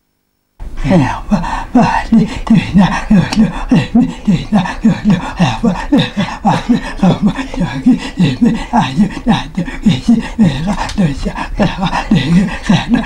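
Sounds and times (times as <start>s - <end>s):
voice chanting short syllables: 0.7s - 13.0s.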